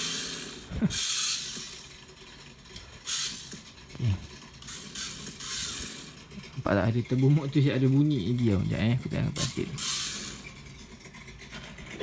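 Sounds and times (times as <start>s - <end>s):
toy car motor whirring: 0.0s - 12.0s.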